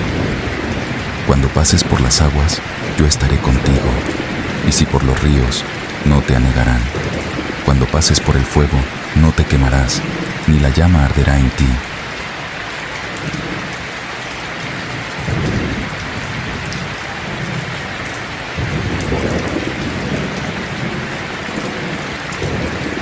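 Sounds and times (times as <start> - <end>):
thunder rumbling: 0.0 - 12.0, 15.2 - 23.0
steady rain: 0.0 - 23.0.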